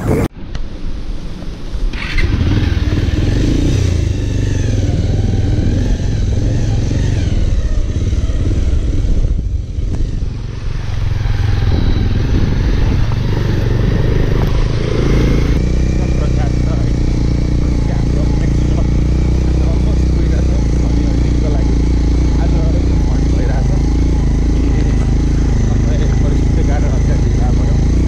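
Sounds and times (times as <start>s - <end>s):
motorcycle engine running: 2.0s - 28.0s.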